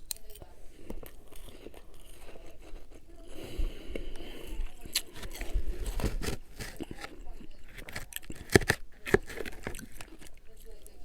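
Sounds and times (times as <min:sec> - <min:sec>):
chewing crunchy frost: 0:00.0 - 0:11.0.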